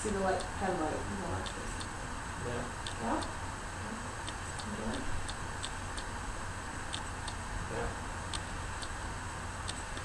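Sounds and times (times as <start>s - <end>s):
faint ticking in pairs: 0.0s - 7.5s, 8.2s - 10.0s
steady low hum: 0.0s - 10.0s.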